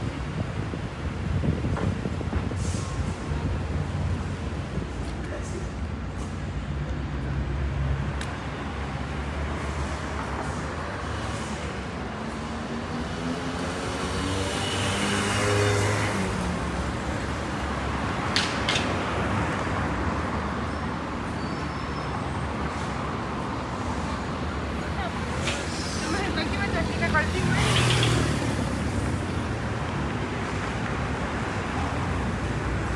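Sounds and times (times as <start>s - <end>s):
vehicles passing on road: 0.0s - 32.9s.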